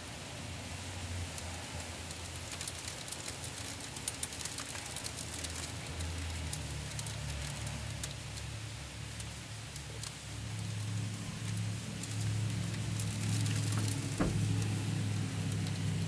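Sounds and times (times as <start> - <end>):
rain hissing: 0.1 - 16.0
hailstones clicking on hard surfaces: 1.2 - 16.0.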